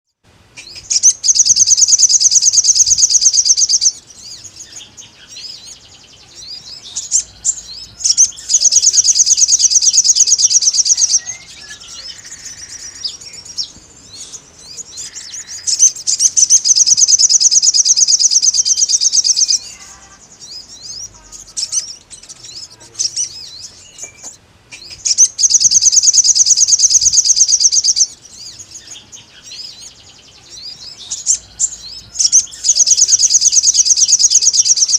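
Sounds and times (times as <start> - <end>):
bird soft chirps: 0.5 - 34.9
bird fast high-pitched trills: 0.6 - 34.9.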